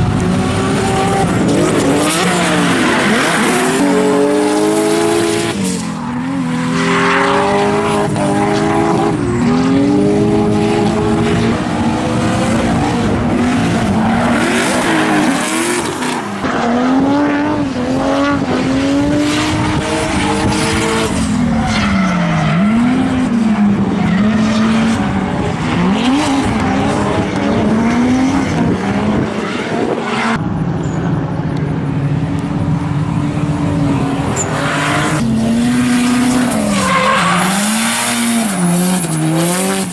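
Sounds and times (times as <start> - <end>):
engines revving: 0.0 - 39.9.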